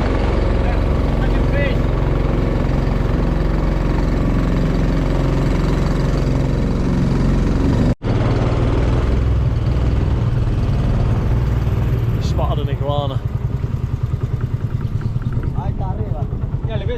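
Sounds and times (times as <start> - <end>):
outboard motor running: 0.0 - 16.9.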